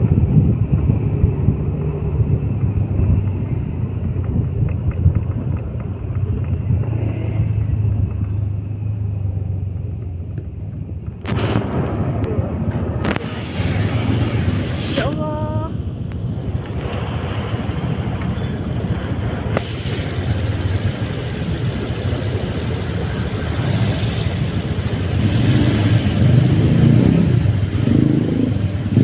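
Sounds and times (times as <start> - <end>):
wind buffeting microphone: 0.0 - 27.8
vehicle rumbling on the move: 0.0 - 29.0.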